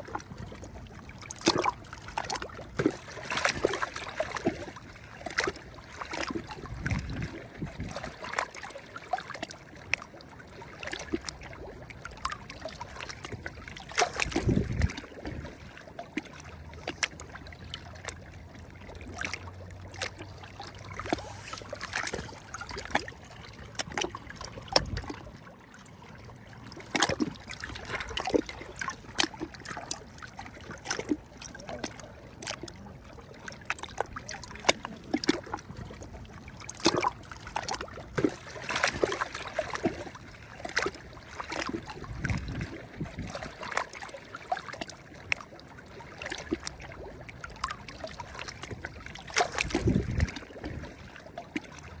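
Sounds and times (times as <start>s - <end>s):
small waves lapping at shore: 0.0s - 52.0s.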